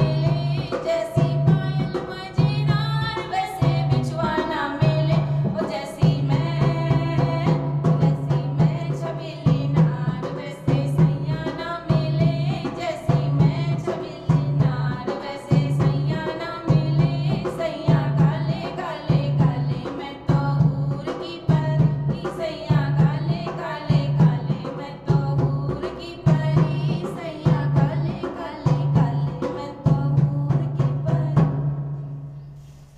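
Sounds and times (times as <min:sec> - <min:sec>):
woman singing: 0:00.0 - 0:31.8.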